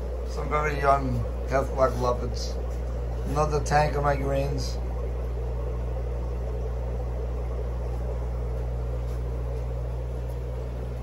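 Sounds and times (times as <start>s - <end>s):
air pump humming: 0.0s - 11.0s.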